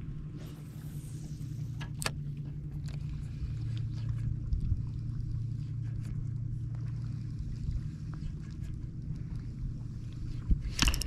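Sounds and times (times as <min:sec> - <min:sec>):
water around a boat: 0:00.0 - 0:11.0
wind: 0:00.0 - 0:11.0.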